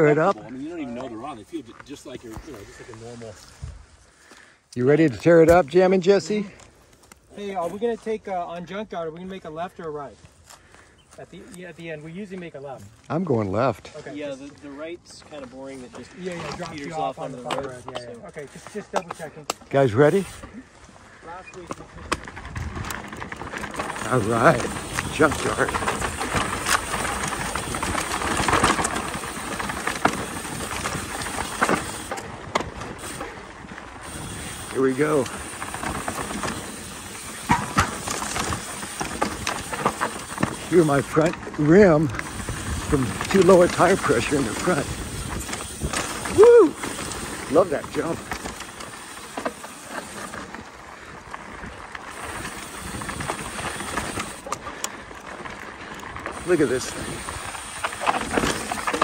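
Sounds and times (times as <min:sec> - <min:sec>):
bicycle tyre noise: 0:00.0 - 0:59.0
bike knocking and rattling: 0:04.9 - 0:14.5, 0:15.2 - 0:59.0.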